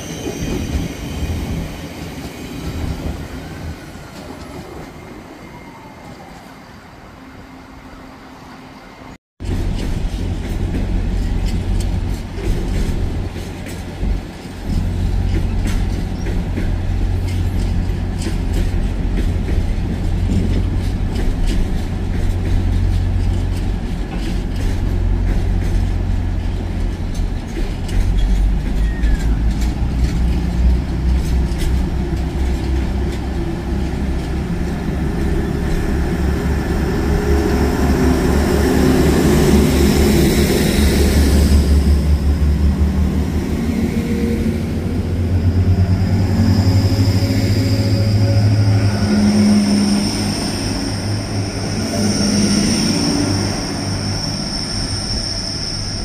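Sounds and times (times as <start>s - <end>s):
train engine droning: 0.0s - 56.0s.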